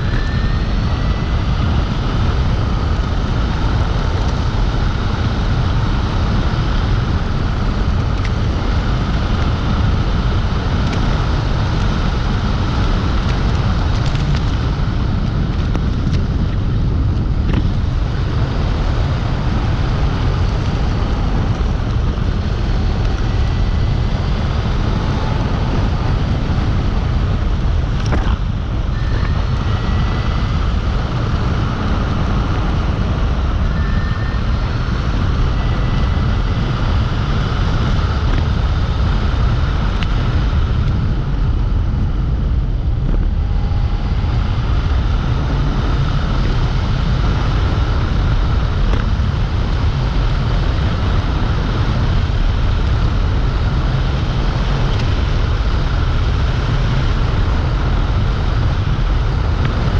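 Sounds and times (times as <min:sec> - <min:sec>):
electric scooter high whines: 0:00.0 - 0:59.9
wind rumbling on microphone: 0:00.0 - 0:59.9.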